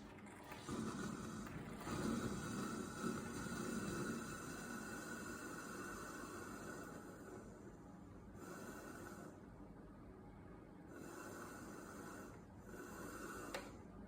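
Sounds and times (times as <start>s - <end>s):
coffee machine milk system hissing: 0.0s - 9.4s, 10.9s - 13.9s.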